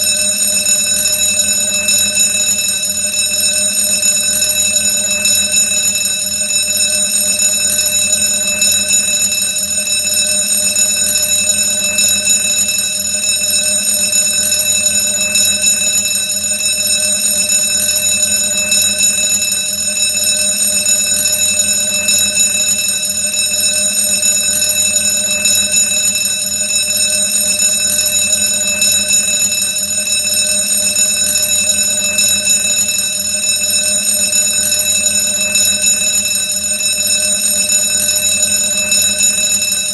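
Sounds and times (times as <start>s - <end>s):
alarm bell ringing: 0.0s - 39.9s.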